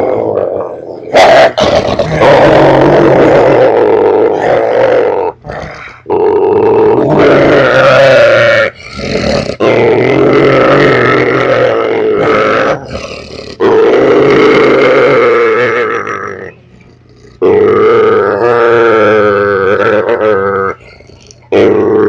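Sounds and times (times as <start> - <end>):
dog growling: 0.0 - 22.0.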